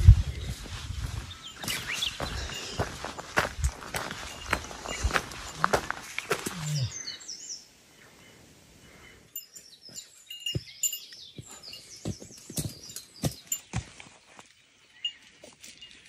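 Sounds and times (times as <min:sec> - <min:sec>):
footsteps on a trail: 0:00.0 - 0:07.0, 0:09.8 - 0:16.0
small birds chirping: 0:00.0 - 0:16.0.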